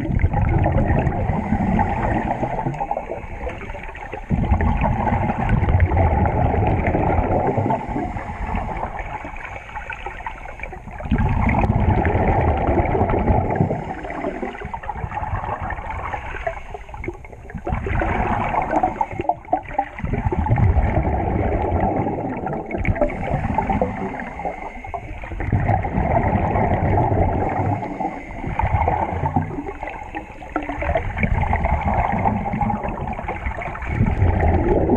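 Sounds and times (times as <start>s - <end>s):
scuba exhaled bubbles gurgling: 0.0s - 34.9s.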